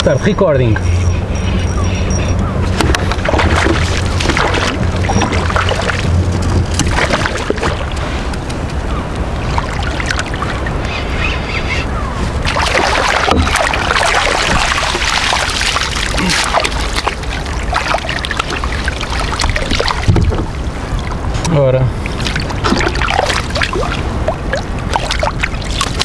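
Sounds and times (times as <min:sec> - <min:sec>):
water splashing against kayak: 0:02.6 - 0:11.0, 0:11.7 - 0:26.0.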